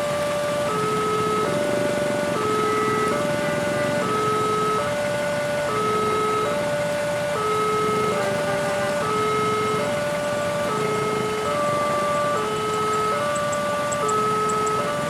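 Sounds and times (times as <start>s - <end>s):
rumble of engines: 0.0s - 15.0s
level-crossing alarm two tones: 0.1s - 15.0s.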